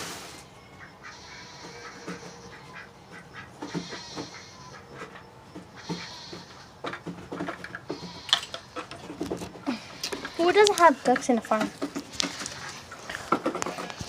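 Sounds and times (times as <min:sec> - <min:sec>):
farm animals calling: 0:00.4 - 0:14.0.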